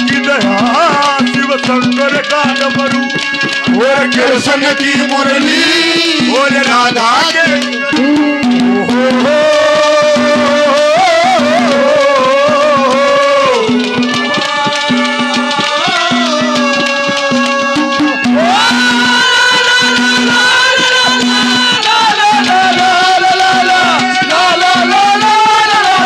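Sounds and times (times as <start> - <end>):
hand-drum beat: 0.0 - 26.0.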